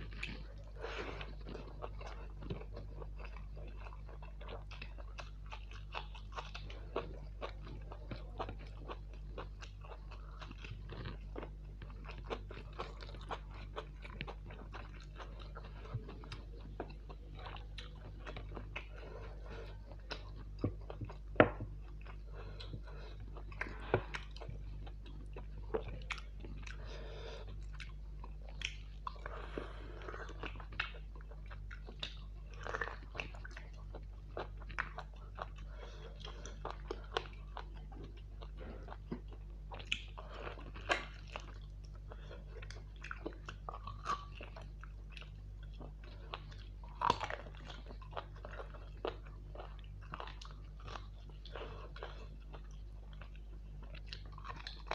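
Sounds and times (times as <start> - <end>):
person chewing food: 0.0 - 54.9
steady low hum: 0.0 - 54.9.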